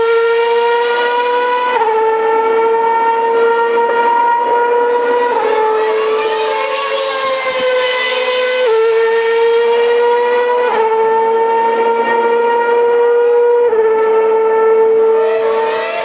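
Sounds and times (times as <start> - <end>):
second racing car engine: 0.0 - 16.0.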